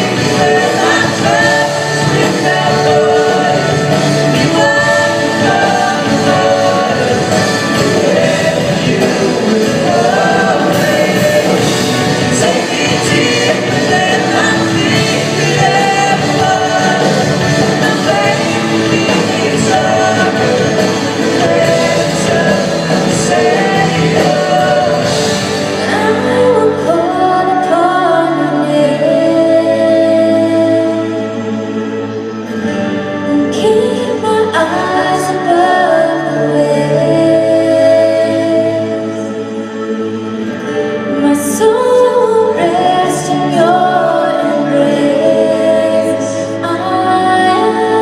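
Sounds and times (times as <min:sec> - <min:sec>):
singer holding long notes: 0:00.0 - 0:48.0
worship band playing slow song: 0:00.0 - 0:48.0.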